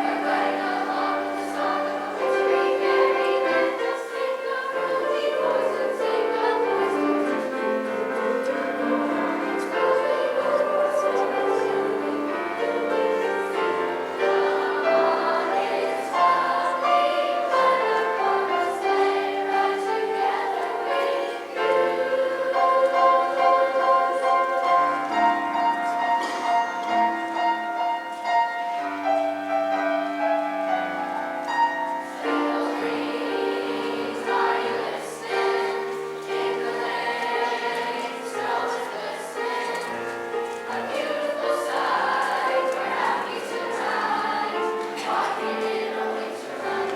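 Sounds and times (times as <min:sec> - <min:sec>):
choir accompaniment: 0:00.0 - 0:46.9
choir singing in harmony: 0:00.0 - 0:46.9.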